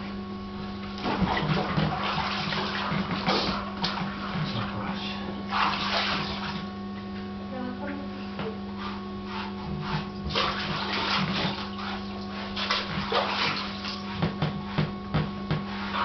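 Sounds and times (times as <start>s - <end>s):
bath water sloshing and splashing: 0.0s - 7.1s, 8.3s - 16.0s
steady low hum: 0.0s - 16.0s.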